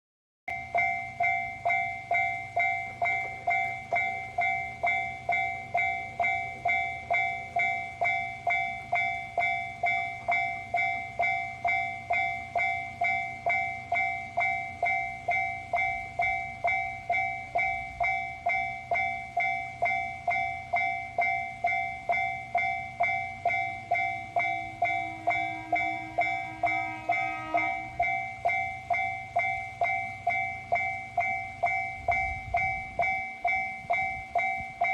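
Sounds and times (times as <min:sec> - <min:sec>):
lower pitched tone: 0:00.5 - 0:34.9
railroad crossing bell ringing: 0:00.5 - 0:34.9.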